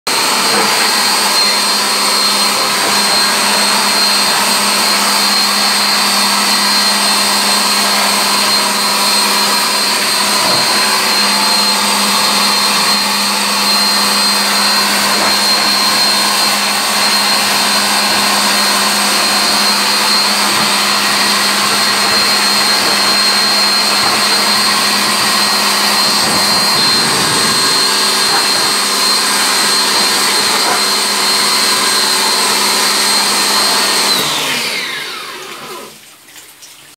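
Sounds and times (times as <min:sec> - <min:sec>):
machine humming and whining: 0:00.1 - 0:35.9.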